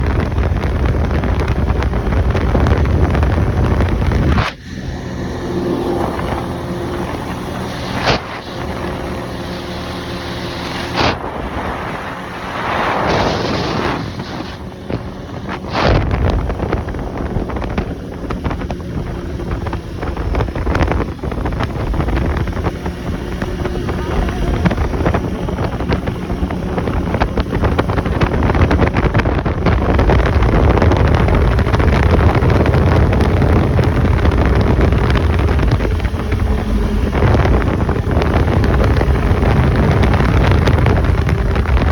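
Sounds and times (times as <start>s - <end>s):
atv engine running: 0.0s - 41.9s
wind buffeting microphone: 0.0s - 41.9s.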